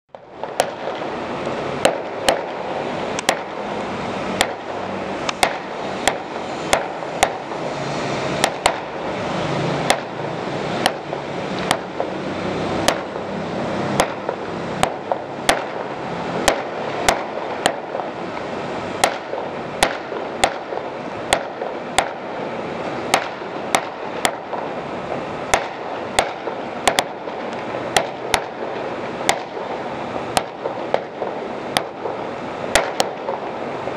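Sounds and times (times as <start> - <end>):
continuous noisy din: 0.1 - 33.9
fireworks bangs: 0.1 - 33.9.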